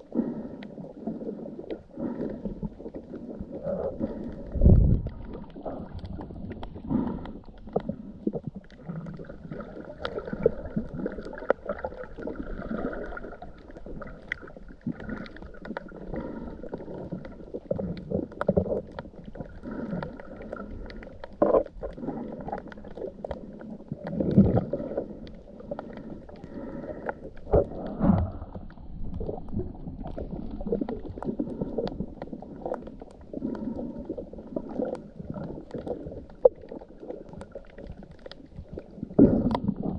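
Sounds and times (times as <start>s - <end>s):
water gurgling and sloshing: 0.0s - 39.9s.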